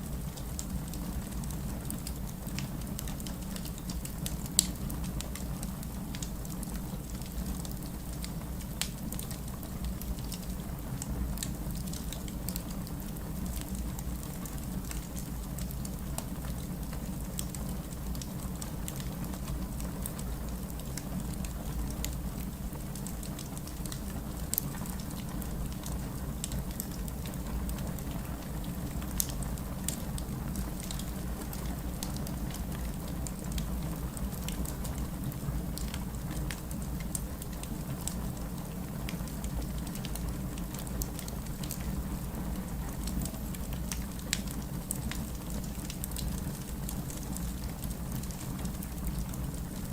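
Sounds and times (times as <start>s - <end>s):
steady rain: 0.0s - 49.9s
wood fire crackling: 0.0s - 49.9s.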